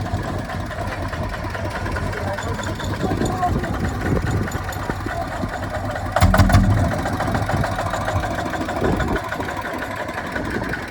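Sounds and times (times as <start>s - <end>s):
diesel engine knocking: 0.0s - 10.9s.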